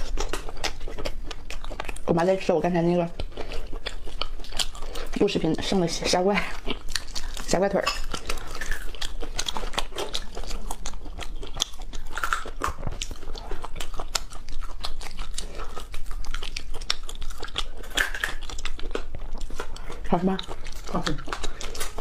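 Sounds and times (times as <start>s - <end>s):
chewing shrimp with crunching clicks: 0.0s - 22.0s.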